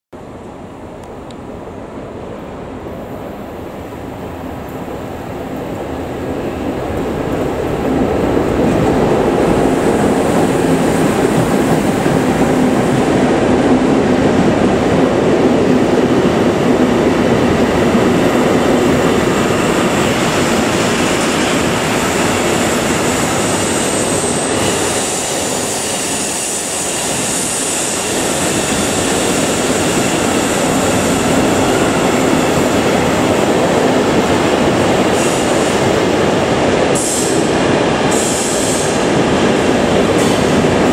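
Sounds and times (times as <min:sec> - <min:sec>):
train wheels rumbling on rails: 0:02.9 - 0:40.9.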